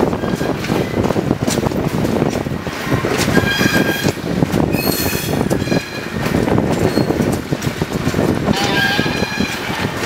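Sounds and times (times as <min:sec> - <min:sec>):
diesel locomotive engine working: 0:00.0 - 0:10.0
road and wind noise: 0:00.0 - 0:10.0.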